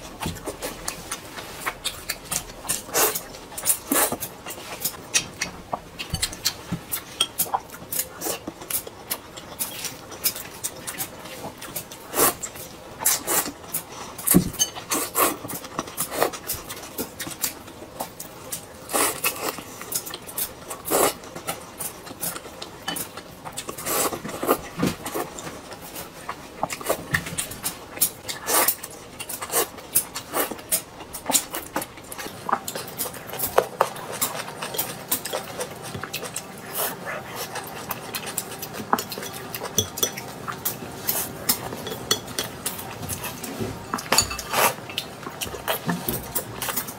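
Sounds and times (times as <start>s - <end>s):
noodles slurped and chewed: 0.3s - 46.9s.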